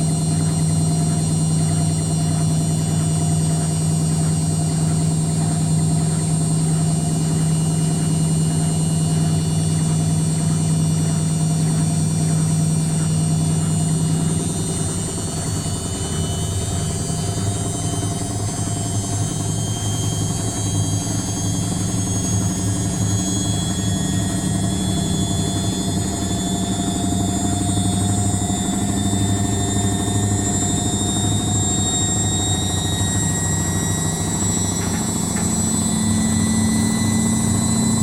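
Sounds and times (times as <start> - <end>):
washing machine motor hum: 0.0 - 38.0.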